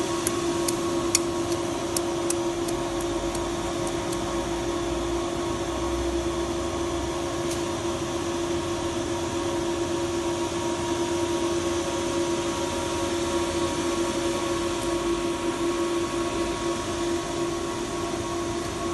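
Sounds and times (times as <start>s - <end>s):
electrical hum: 0.0s - 18.9s
fan-like hiss: 0.0s - 18.9s.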